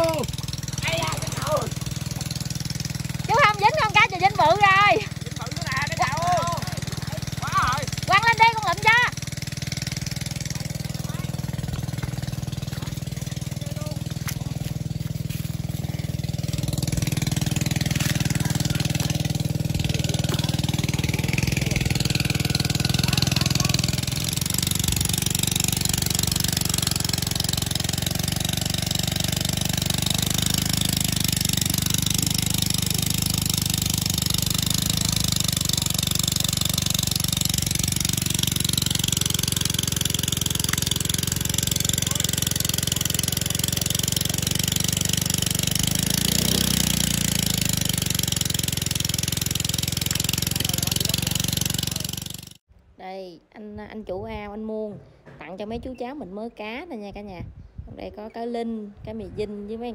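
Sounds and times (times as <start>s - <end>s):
small engine running: 0.0s - 52.6s.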